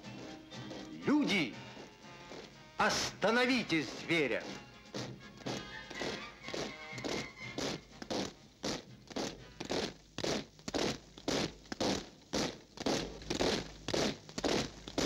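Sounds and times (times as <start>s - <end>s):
rhythmic rasping noise: 0.0s - 15.0s.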